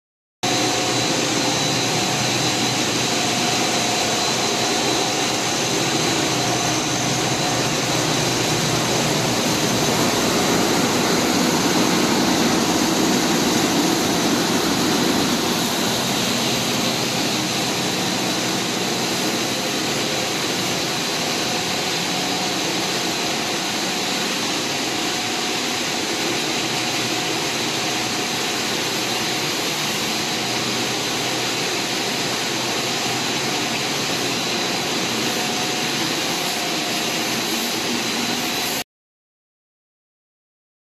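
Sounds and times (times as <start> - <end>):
high-pitched machine whines: 0.4 - 38.8
motors and fans droning: 0.5 - 38.8.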